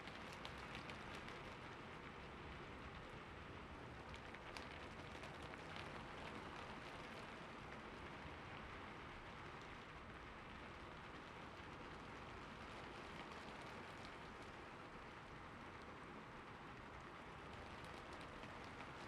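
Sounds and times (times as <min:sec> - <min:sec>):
rain pattering: 0:00.0 - 0:19.0.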